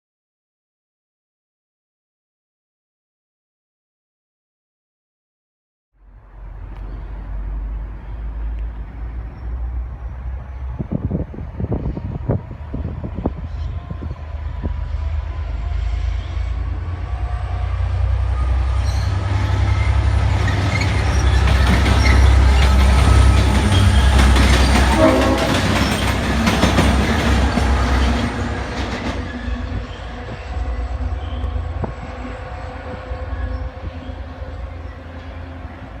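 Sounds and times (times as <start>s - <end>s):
diesel locomotive engine: 6.0s - 36.0s.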